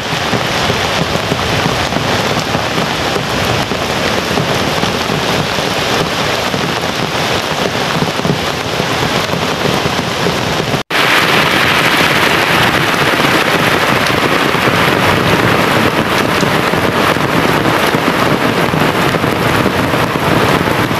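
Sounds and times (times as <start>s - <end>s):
heavy rain on puddled ground: 0.0s - 20.9s.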